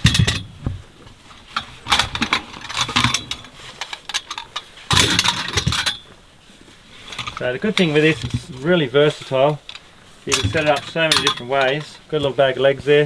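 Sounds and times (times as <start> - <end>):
metal table legs clinking: 0.0 - 0.6, 1.5 - 6.2, 7.0 - 12.5.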